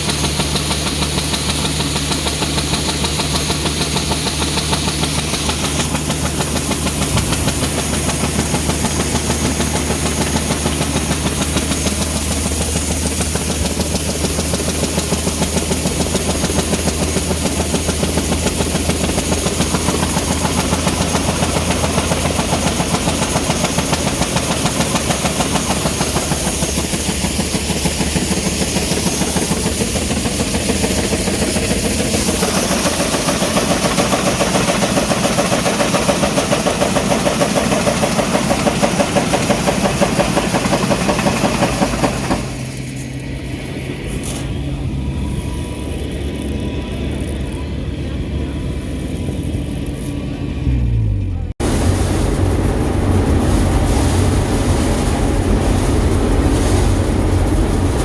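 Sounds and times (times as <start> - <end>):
threshing machinery clatter: 0.0 - 44.6, 51.6 - 58.0
combine harvester engine hum: 0.0 - 58.0.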